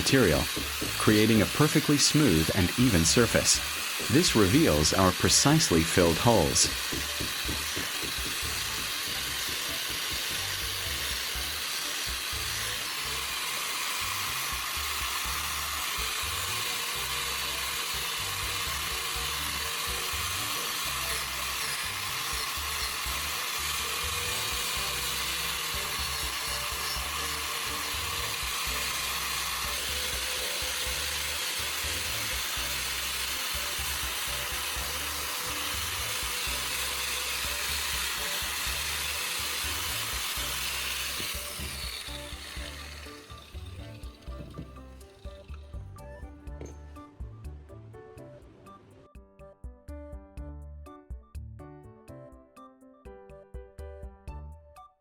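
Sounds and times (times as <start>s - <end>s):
angle grinder sanding: 0.0s - 45.9s.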